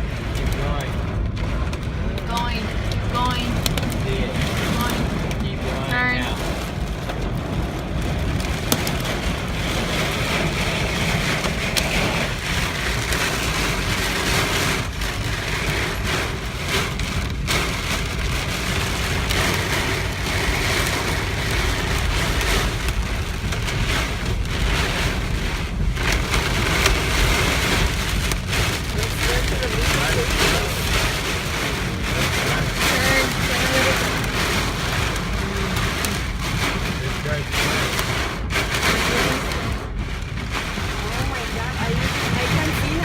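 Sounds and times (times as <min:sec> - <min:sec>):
heavy rain on a car: 0:00.0 - 0:43.0
storm wind: 0:00.0 - 0:43.0.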